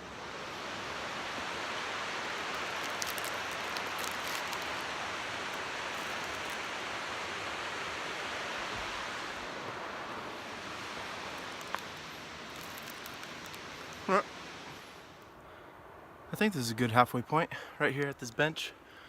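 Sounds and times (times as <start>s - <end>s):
stream water rushing: 0.0s - 15.3s.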